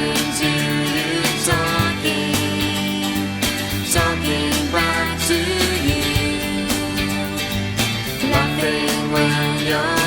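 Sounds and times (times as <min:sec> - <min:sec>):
instrumental band music with guitar: 0:00.0 - 0:10.0.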